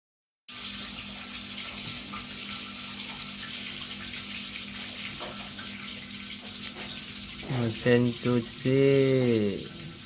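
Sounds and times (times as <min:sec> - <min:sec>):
running water: 0:00.5 - 0:10.0.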